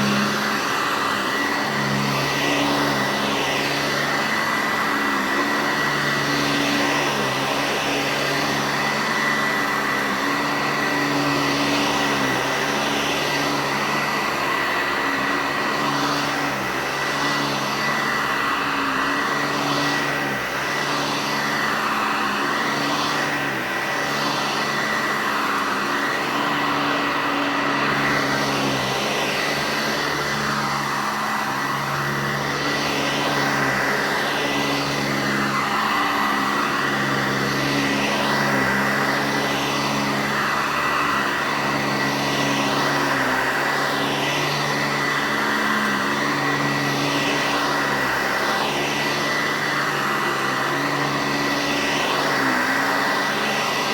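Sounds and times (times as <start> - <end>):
vacuum cleaner motor whine: 0.0 - 53.9.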